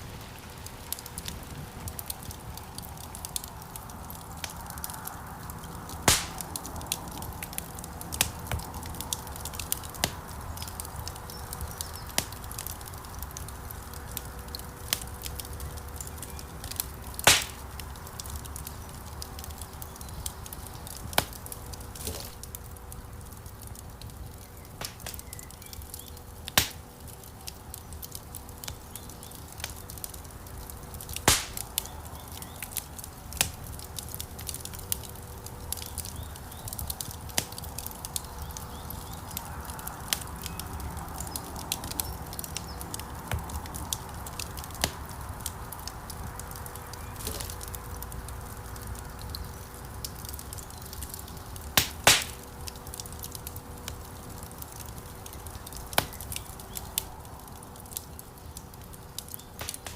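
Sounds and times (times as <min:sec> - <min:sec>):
low rush of flames: 0:00.0 - 0:59.9
wood fire crackling: 0:00.0 - 0:59.9
sharp pops from fire: 0:00.1 - 0:59.9.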